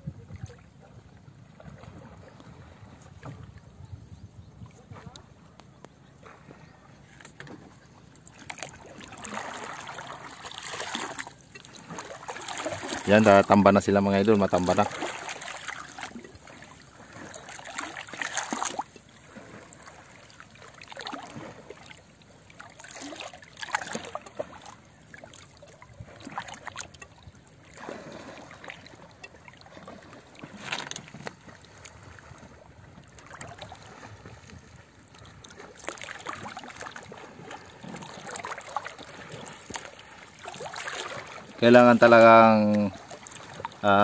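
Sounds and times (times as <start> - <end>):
water lapping against boat hull: 0.0 - 44.0.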